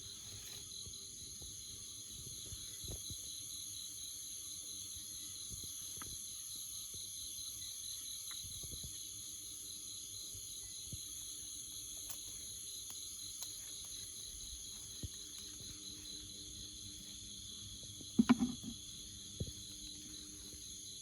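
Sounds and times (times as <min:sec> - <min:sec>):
crickets and insects chirping: 0:00.0 - 0:21.0.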